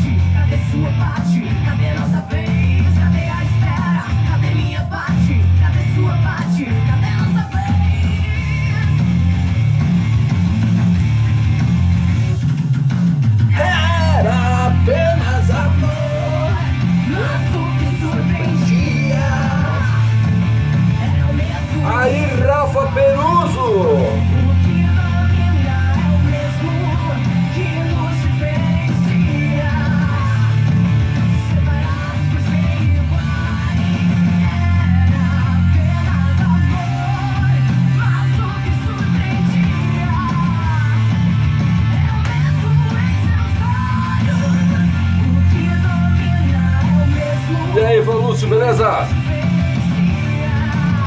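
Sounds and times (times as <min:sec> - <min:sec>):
rock music with singing: 0:00.0 - 0:51.0.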